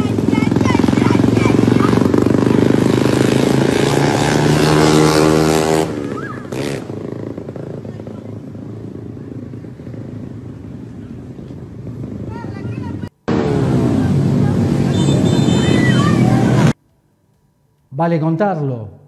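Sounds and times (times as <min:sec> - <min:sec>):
unmuffled vehicle engine revving: 0:00.0 - 0:16.8
street noise: 0:00.0 - 0:19.0.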